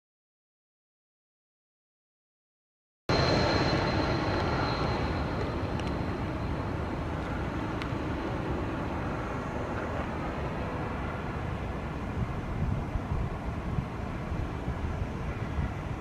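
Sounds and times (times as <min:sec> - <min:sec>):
high jet engine whine: 0:03.1 - 0:16.0
jet airliner rumble passing low: 0:03.1 - 0:16.0.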